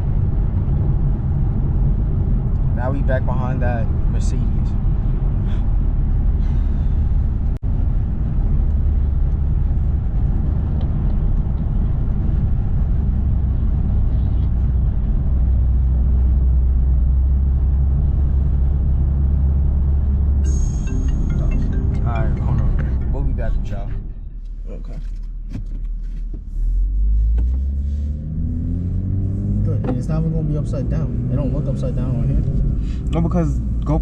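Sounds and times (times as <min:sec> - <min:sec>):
car engine drone: 0:00.0 - 0:34.0
road noise: 0:00.0 - 0:34.0.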